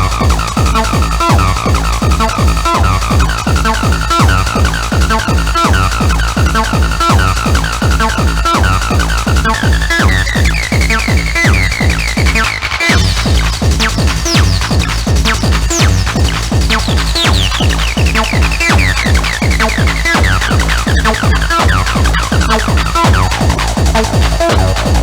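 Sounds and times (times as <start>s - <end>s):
high synth riff: 0.0s - 25.0s
pounding kick drum: 0.0s - 25.0s.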